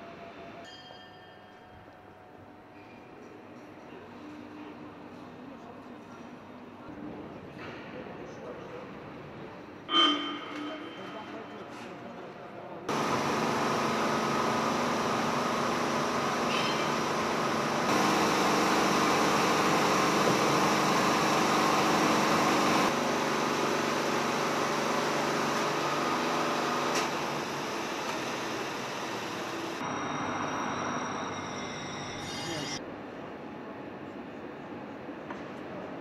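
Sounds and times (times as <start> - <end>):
machinery and ventilation hum: 1.7 - 36.0.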